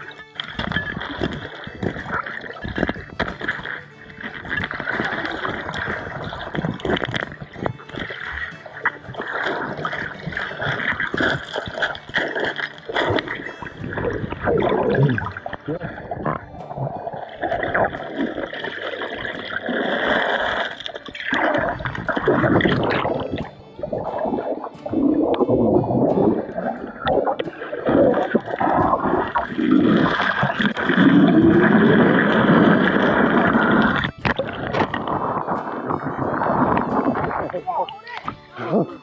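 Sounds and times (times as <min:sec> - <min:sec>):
water churning and bubbling: 0:00.0 - 0:39.0.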